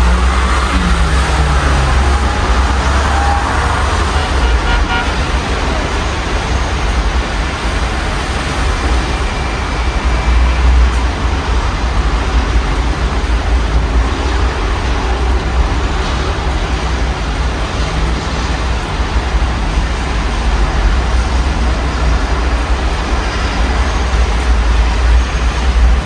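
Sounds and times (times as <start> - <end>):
low city traffic rumble: 0.0 - 26.0.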